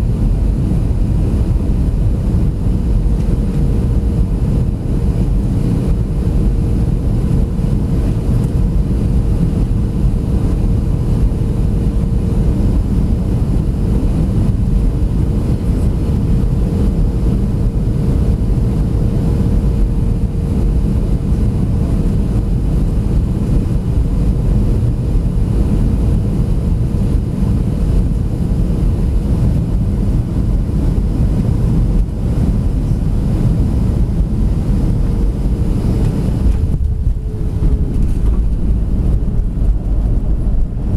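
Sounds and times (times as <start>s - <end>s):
low rumble of airflow and engines: 0.0s - 40.9s
steady hum: 0.0s - 40.9s.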